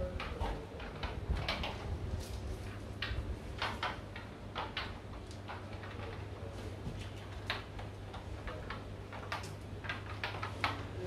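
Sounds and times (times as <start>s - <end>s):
light clicks and knocks: 0.0s - 11.0s
steady low hum: 0.0s - 11.0s.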